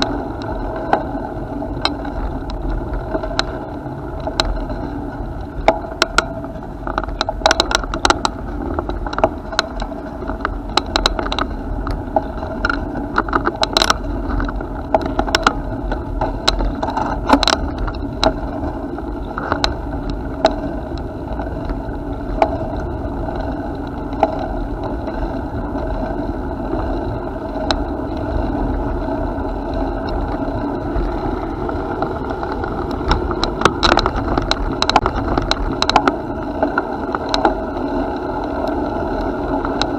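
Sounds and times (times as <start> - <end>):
bicycle rattles and clicks: 0.0 - 39.9
bicycle rolling rumble: 0.0 - 39.9.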